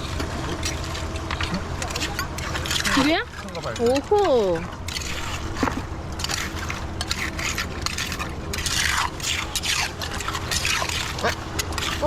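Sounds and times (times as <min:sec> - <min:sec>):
tool scraping through wet mud: 0:00.0 - 0:04.3, 0:04.9 - 0:12.0
wet watery sounds: 0:00.0 - 0:12.0.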